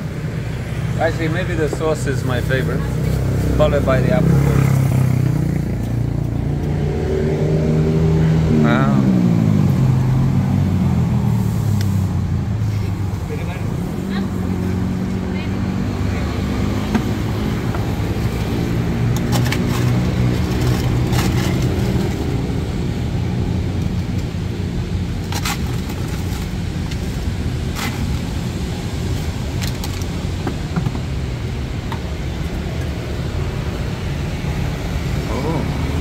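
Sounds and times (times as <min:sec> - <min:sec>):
street traffic rumble: 0:00.0 - 0:36.0.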